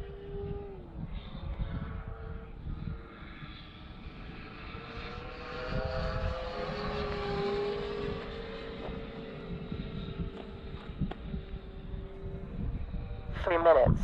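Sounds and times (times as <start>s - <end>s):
model airplane propeller drone: 0.0s - 14.0s.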